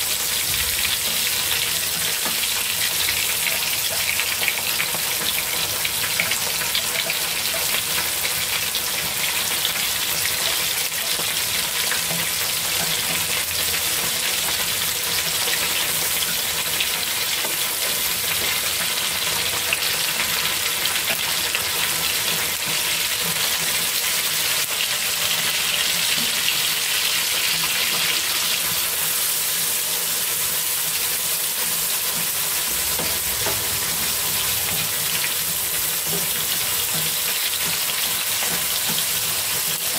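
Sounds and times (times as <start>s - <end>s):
meat sizzling in oil: 0.0s - 39.9s.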